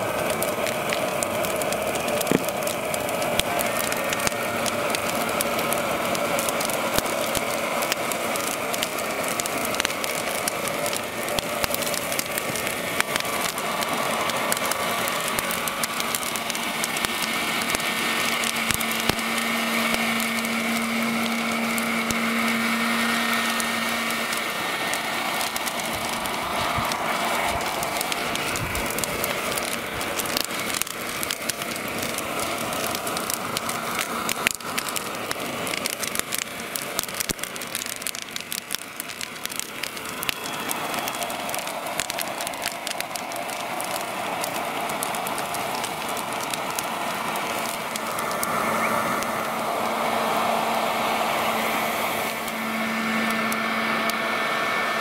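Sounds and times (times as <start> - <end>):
whine of fan and pump motors: 0.0 - 55.0
wood burning and crackling: 0.0 - 55.0.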